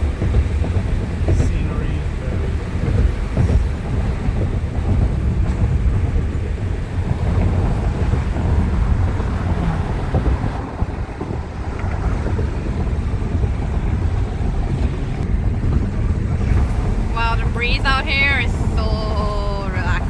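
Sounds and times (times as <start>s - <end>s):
car driving rumble: 0.0s - 20.0s
wind buffeting microphone: 0.0s - 20.0s.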